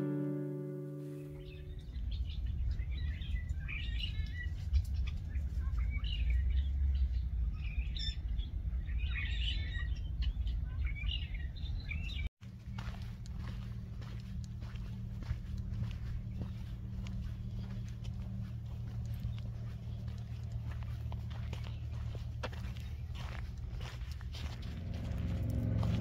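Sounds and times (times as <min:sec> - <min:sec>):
small birds chirping: 0:01.2 - 0:26.0
steady low rumble: 0:01.4 - 0:26.0.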